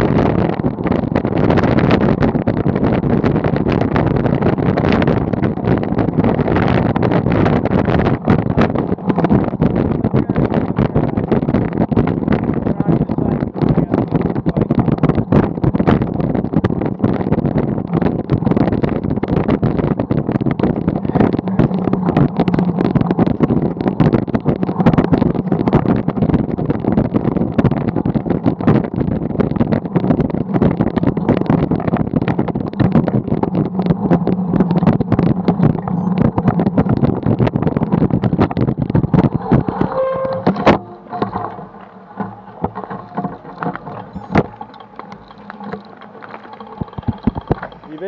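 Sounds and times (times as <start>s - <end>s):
bike tyres rolling on rough pavement: 0.0s - 48.0s
wind buffeting microphone: 0.0s - 48.0s.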